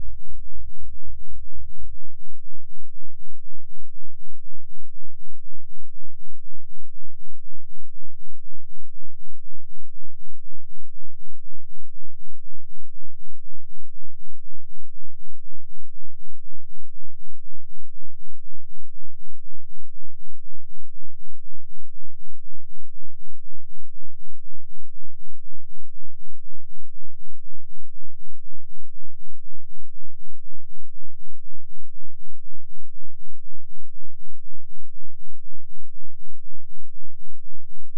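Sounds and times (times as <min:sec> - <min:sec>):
deep pulsing bass test tone: 0:00.0 - 0:37.9.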